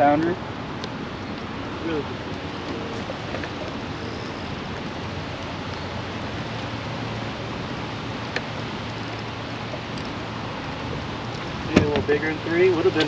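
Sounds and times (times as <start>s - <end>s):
water rushing around kayak: 0.0s - 13.0s.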